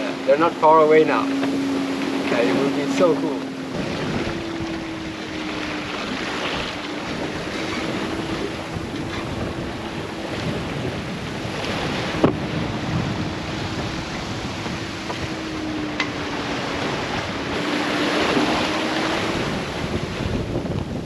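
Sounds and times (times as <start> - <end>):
wind and sea rushing: 0.0 - 21.0
wind buffeting microphone: 0.0 - 21.0.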